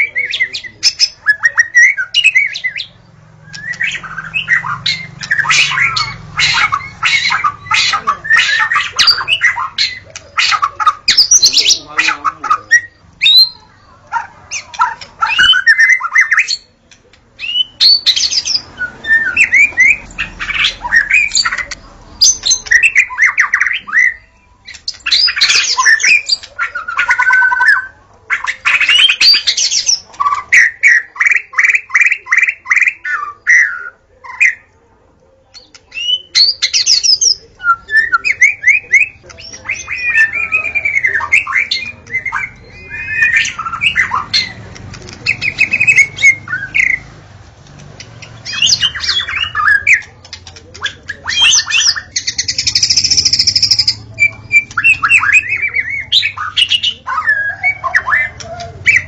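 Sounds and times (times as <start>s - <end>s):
bird singing: 0.0s - 59.0s.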